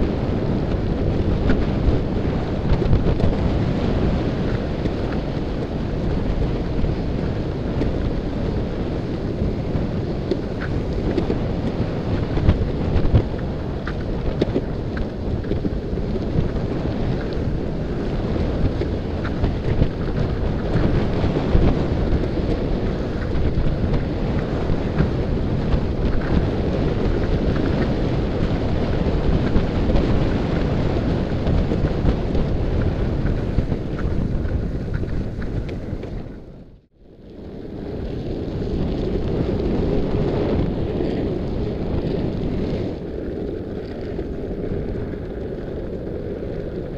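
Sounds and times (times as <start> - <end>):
longboard wheels rolling on asphalt: 0.0 - 46.9
wind buffeting microphone: 0.0 - 46.9.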